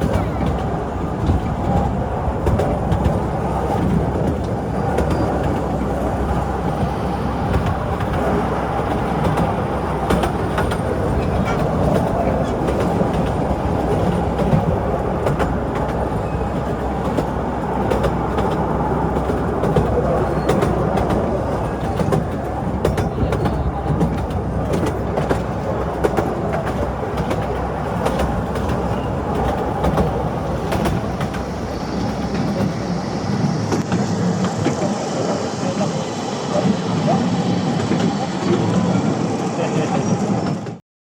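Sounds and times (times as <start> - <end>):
train rumbling on track: 0.0 - 40.8
wheels clicking on rails: 0.0 - 40.8.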